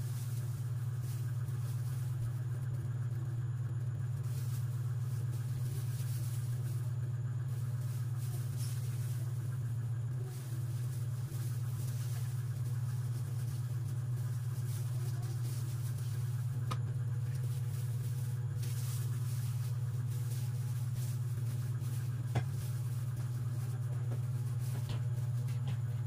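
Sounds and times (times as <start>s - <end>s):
faint rustling: 0.0s - 26.0s
low hum: 0.0s - 26.0s.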